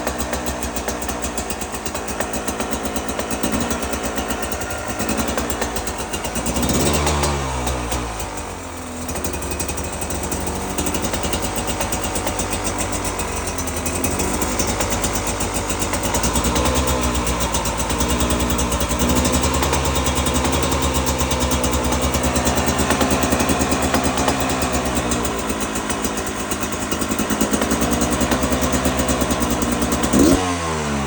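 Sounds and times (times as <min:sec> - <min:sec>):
two-stroke engine running: 0:00.0 - 0:31.0.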